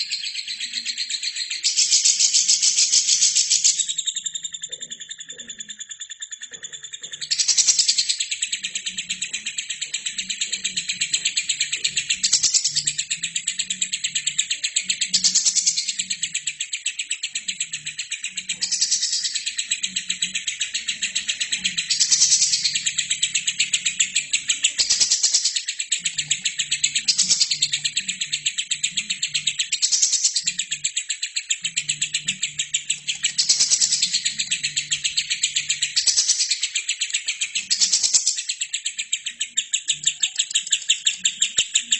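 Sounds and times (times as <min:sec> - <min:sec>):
lovebird chattering: 0:00.0 - 0:41.9.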